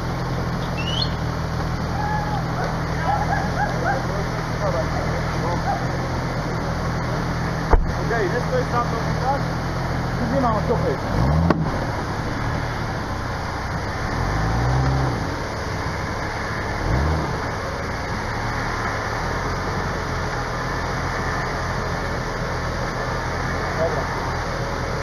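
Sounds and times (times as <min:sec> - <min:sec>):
engine revving: 0:00.0 - 0:25.0.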